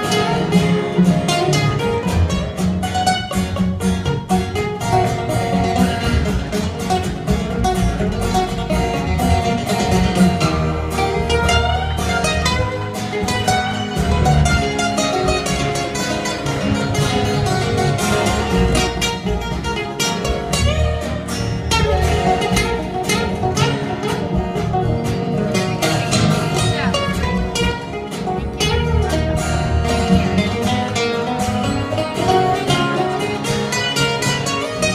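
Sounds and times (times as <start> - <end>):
two acoustic guitars playing: 0.0 - 34.9.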